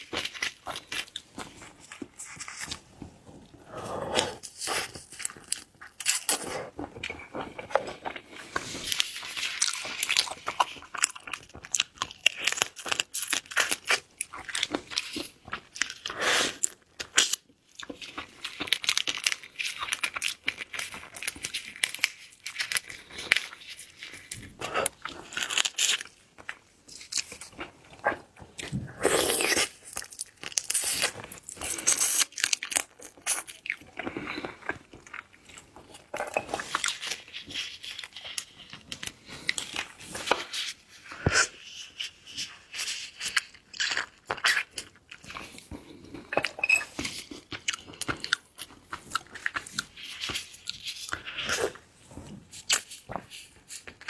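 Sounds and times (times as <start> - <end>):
crunching and wet chewing: 0.0 - 54.0.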